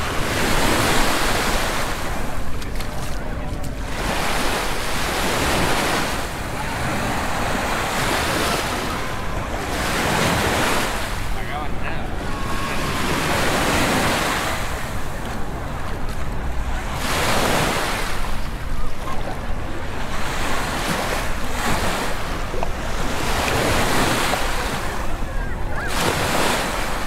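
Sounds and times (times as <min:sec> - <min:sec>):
waves washing onto sandy shore: 0:00.0 - 0:27.0.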